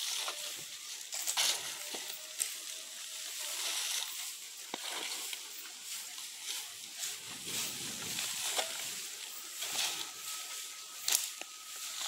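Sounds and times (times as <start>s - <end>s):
hoe scraping dry dirt: 0.0s - 12.0s
leaves rustling: 0.0s - 12.0s.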